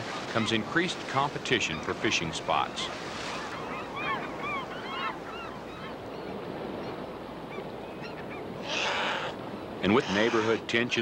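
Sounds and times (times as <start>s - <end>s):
gulls calling: 0.0s - 11.0s.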